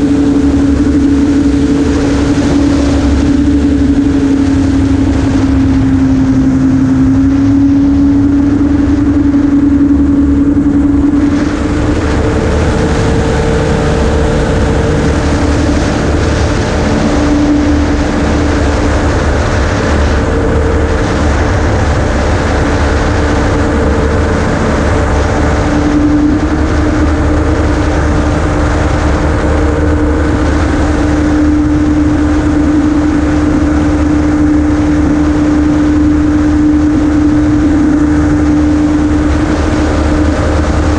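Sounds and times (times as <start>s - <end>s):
aircraft engine and propeller drone: 0.0s - 40.9s.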